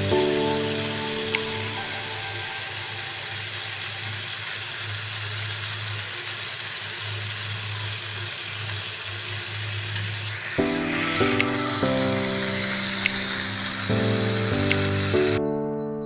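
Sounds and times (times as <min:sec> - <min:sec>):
food sizzling in a pan: 0:00.0 - 0:15.4.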